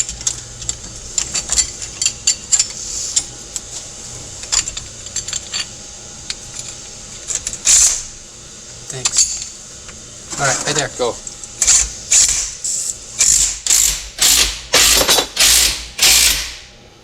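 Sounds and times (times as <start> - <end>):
metal parts and tools clinking: 0.0 - 8.1, 8.9 - 9.6, 10.4 - 16.5.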